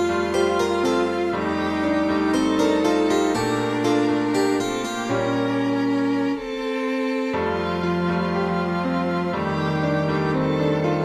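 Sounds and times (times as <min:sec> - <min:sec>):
violin cello and piano playing: 0:00.0 - 0:11.0.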